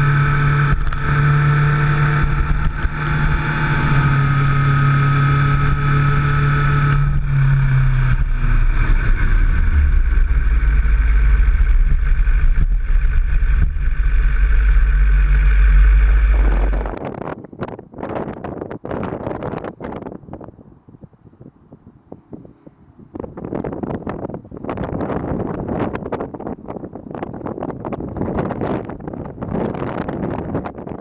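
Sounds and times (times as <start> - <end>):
motorcycle engine drone: 0.0 - 31.0.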